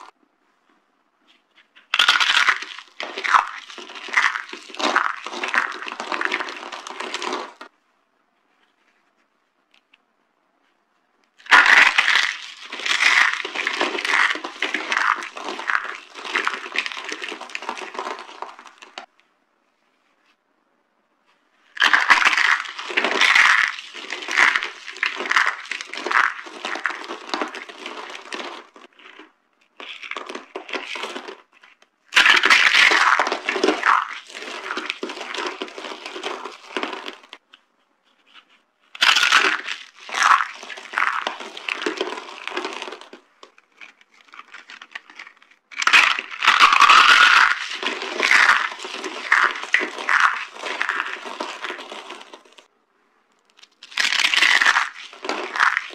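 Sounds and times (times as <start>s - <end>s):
soap boxes crunching: 1.8s - 7.7s, 11.4s - 19.1s, 21.7s - 37.5s, 38.3s - 52.7s, 53.5s - 55.9s.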